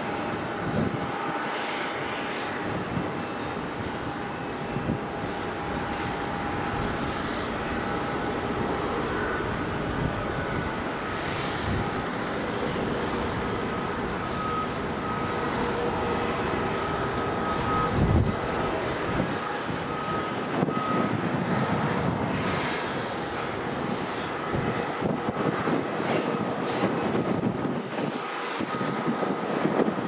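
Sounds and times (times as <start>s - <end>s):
jet aircraft hum and whine: 0.0s - 30.0s.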